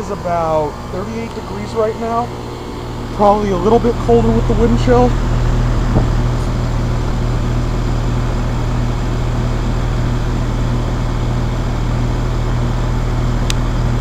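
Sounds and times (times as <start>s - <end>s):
fan airflow: 0.0s - 14.0s
heat pump compressor hum: 0.0s - 14.0s.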